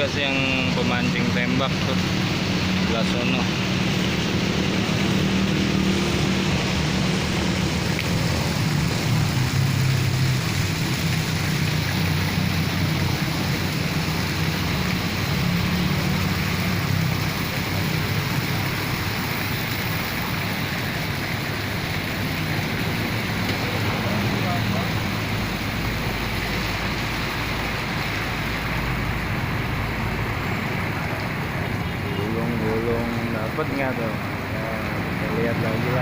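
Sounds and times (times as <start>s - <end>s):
road traffic noise: 0.0s - 36.0s
vehicle engines humming: 0.0s - 36.0s.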